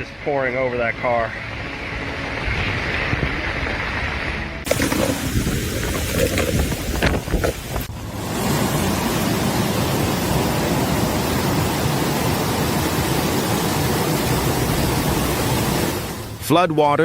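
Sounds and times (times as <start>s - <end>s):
floodwater rushing: 1.4s - 16.7s.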